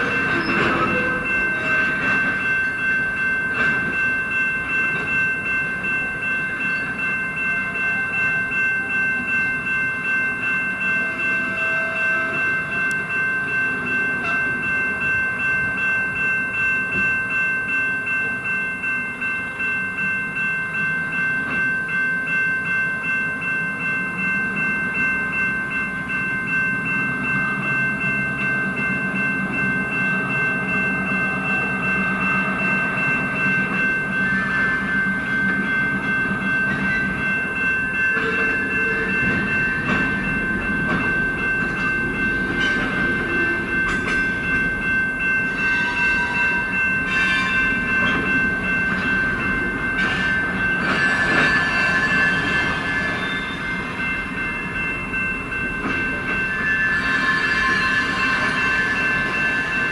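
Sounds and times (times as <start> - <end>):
steady high-pitched tones: 0.0 - 59.9
train rumbling on track: 0.0 - 59.9.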